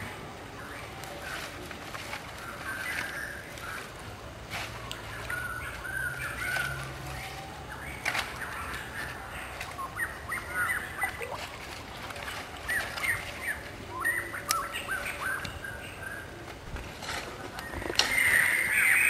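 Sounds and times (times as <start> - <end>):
birds calling in hooked notes: 0.0 - 19.0.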